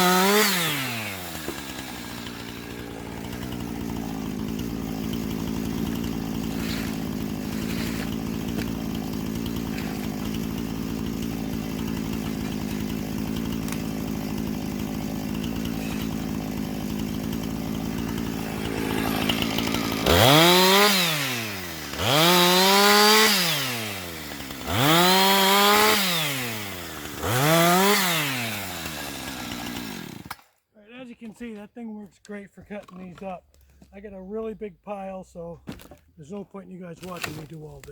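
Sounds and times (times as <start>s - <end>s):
chainsaw running and revving: 0.0s - 30.5s.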